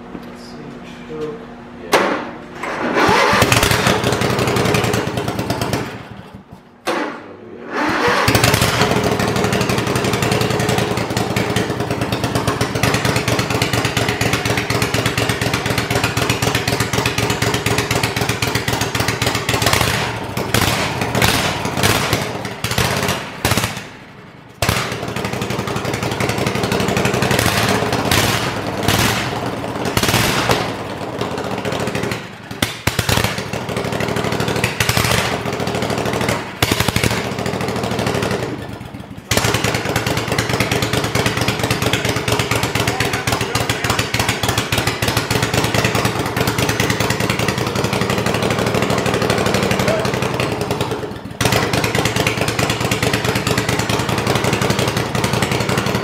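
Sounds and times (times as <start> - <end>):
engine running rough: 0.0 - 56.0.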